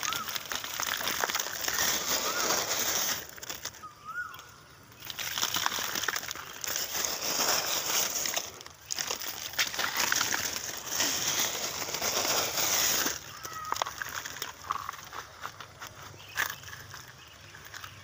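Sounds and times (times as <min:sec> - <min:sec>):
dry palm fronds rustling: 0:00.0 - 0:03.9, 0:05.0 - 0:18.0.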